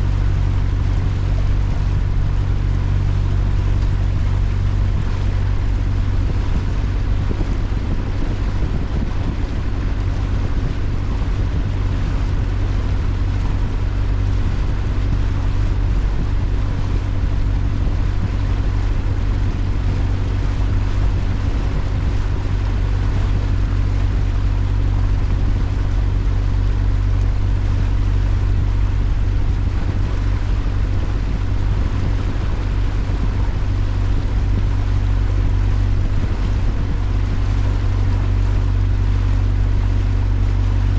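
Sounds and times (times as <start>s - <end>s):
boat engine humming: 0.0s - 40.9s
water and air rushing: 0.0s - 40.9s.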